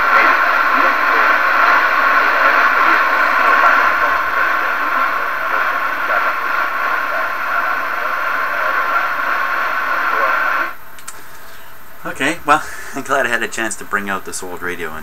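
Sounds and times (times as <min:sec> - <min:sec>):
radio receiver static hiss: 0:00.0 - 0:15.0.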